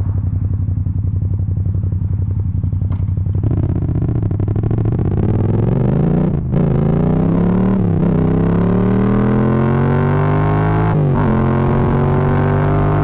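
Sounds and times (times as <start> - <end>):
motorcycle engine revving: 0.7 - 13.0.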